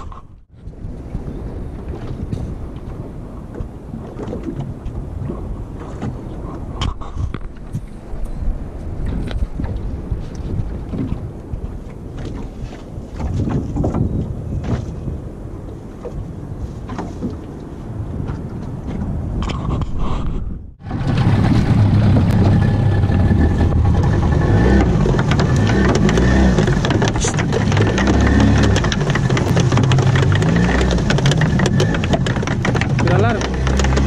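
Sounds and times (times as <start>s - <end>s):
water splashing: 0.0s - 14.9s, 20.8s - 34.0s
boat engine: 0.0s - 34.0s
water rushing along hull: 0.0s - 34.0s
wind on microphone: 0.0s - 34.0s.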